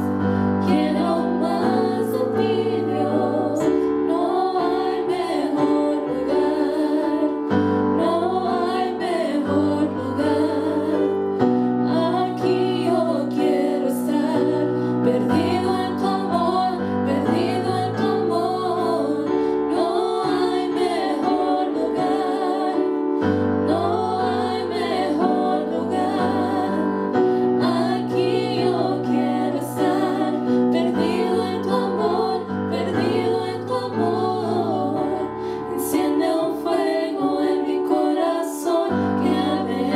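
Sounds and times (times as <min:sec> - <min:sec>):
women singing gospel: 0:00.0 - 0:39.9.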